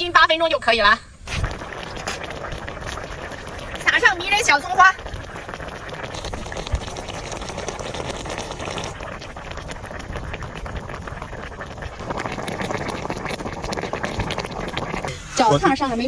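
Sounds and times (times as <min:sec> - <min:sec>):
thick sauce bubbling in a pot: 0:01.3 - 0:16.0.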